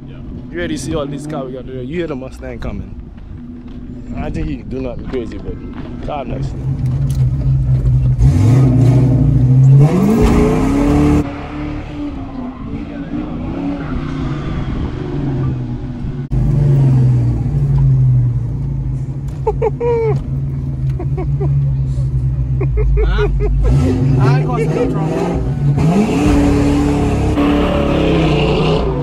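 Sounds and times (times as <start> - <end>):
car engine revving: 5.7 - 29.0.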